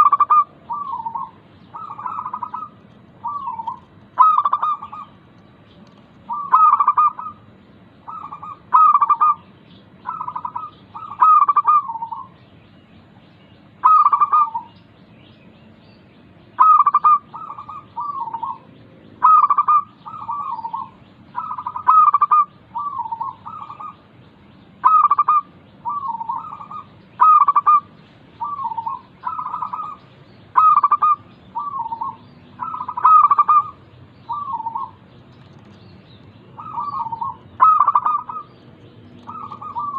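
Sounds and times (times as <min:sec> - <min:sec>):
dove cooing: 0:00.0 - 0:05.2, 0:06.3 - 0:12.4, 0:13.8 - 0:14.8, 0:16.6 - 0:24.0, 0:24.8 - 0:35.0, 0:36.5 - 0:38.6, 0:39.2 - 0:39.9.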